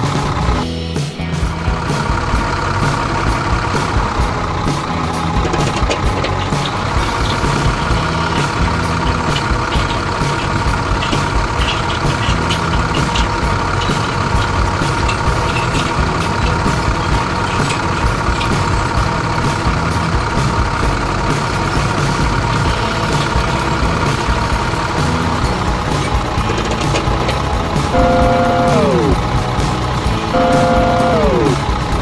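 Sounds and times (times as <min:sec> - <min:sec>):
farm vehicle engine running: 0:00.0 - 0:32.0
high engine whine: 0:00.0 - 0:32.0.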